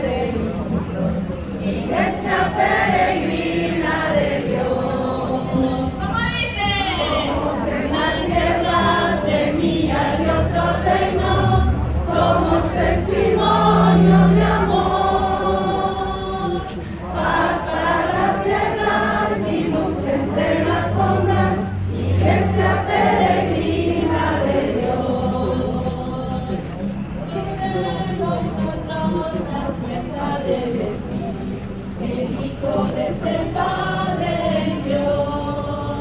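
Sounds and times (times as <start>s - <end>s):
crowd singing a hymn: 0.0s - 36.0s.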